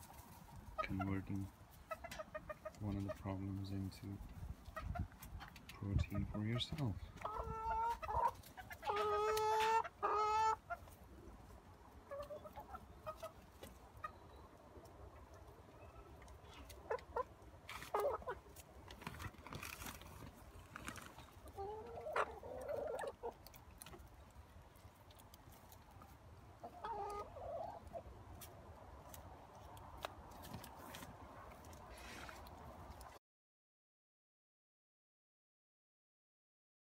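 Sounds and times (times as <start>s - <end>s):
hens clucking: 0.0s - 33.1s.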